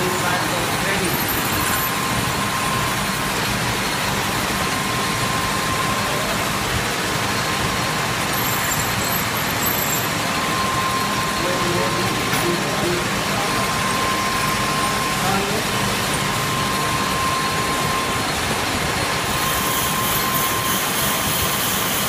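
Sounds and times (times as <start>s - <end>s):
lathe cutting metal bar: 0.0s - 22.0s.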